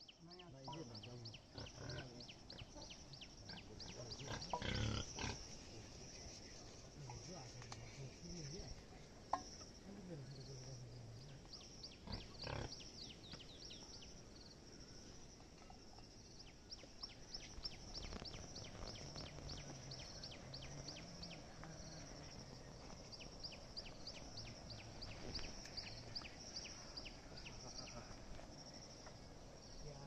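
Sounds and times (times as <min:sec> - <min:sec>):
insects buzzing: 0:00.0 - 0:30.0.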